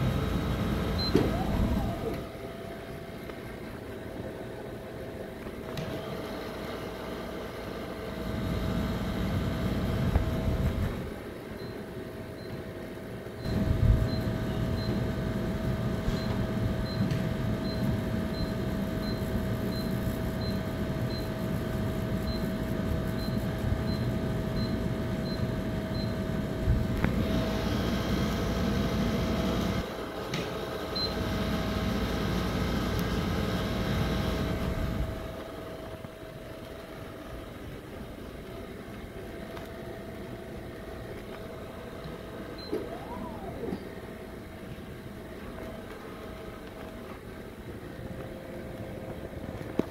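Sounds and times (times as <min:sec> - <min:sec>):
vending machine motors running: 0:00.0 - 0:48.0
steady hum: 0:00.0 - 0:49.9.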